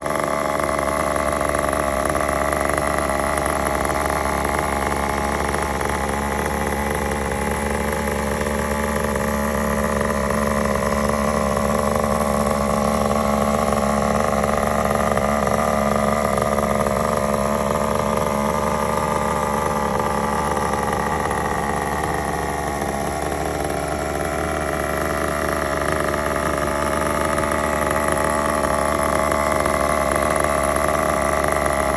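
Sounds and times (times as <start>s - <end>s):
small glow engine running: 0.0s - 31.9s.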